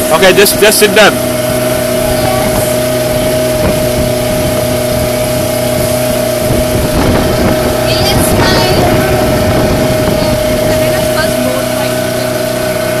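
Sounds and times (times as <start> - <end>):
boat engine droning: 0.0 - 13.0
rushing water: 0.0 - 13.0
wind: 0.0 - 13.0.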